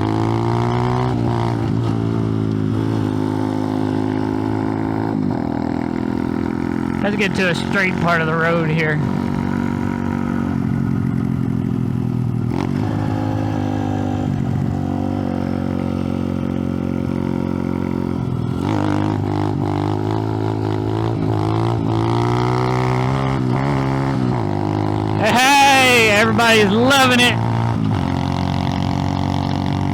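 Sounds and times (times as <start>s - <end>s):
mini bike engine revving: 0.0s - 29.9s.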